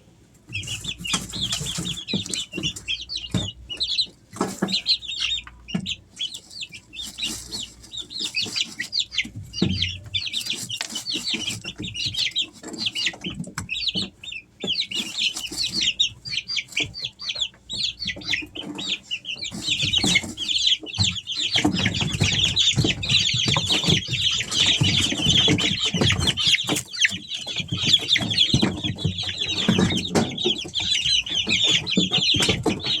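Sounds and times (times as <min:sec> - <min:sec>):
chicks peeping: 0:00.0 - 0:33.0.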